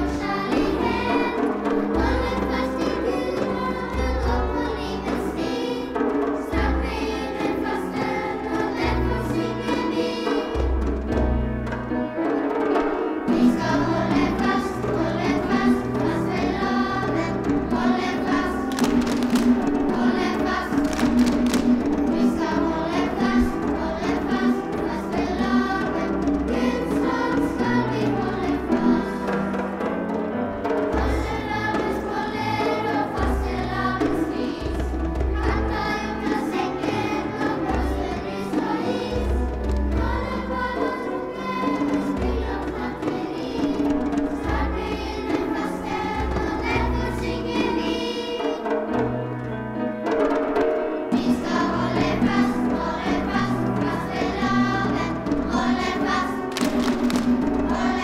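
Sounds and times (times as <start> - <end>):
children's choir singing: 0.0 - 58.0
instrumental accompaniment: 0.0 - 58.0.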